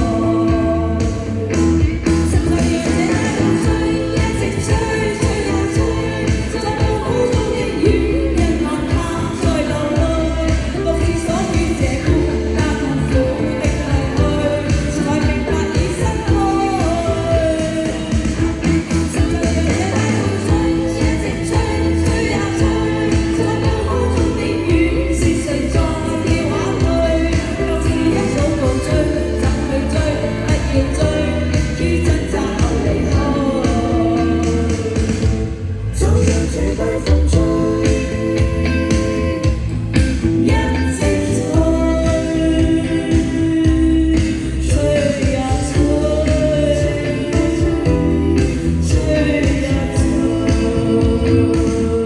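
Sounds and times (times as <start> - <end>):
bass line: 0.0 - 52.0
person singing pop song: 0.0 - 52.0
steady drum beat: 0.0 - 52.0.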